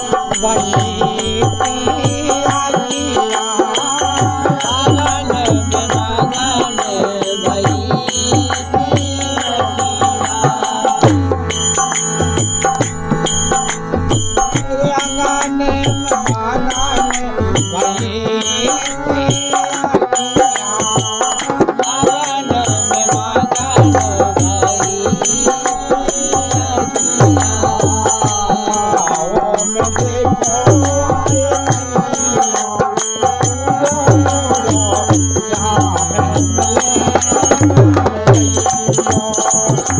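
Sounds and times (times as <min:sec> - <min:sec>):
hand drum rhythm: 0:00.0 - 0:39.9
harmonium melody: 0:00.0 - 0:39.9.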